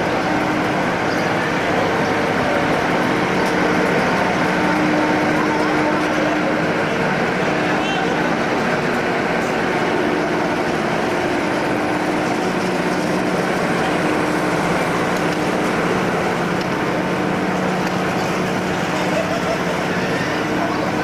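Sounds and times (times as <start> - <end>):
electric locomotive whirring hum: 0.0 - 21.0.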